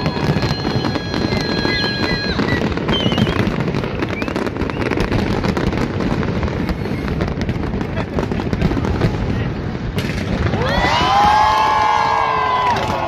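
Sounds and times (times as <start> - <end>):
fireworks bursting and crackling: 0.0 - 13.0
fireworks whistling: 0.0 - 13.0.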